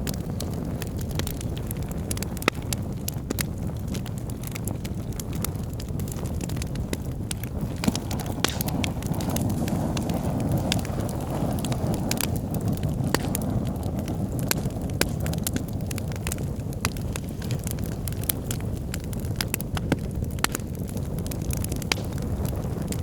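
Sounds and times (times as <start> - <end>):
burning logs crackling and popping: 0.0 - 23.0
fire rumbling in fireplace: 0.0 - 23.0.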